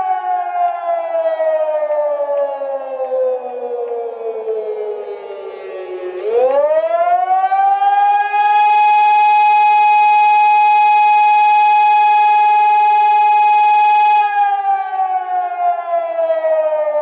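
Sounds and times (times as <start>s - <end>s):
civil defense siren wailing: 0.0s - 17.0s.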